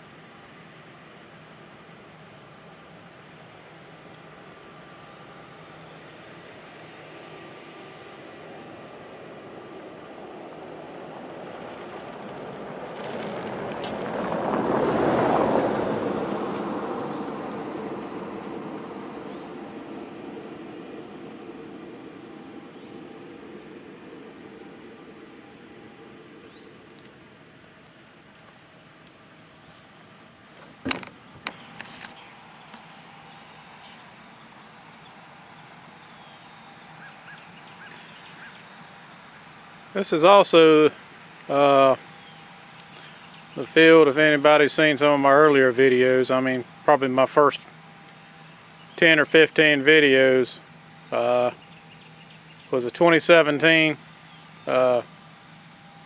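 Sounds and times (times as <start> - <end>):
combine harvester passing: 0.0 - 56.0
low hiss: 0.0 - 56.0.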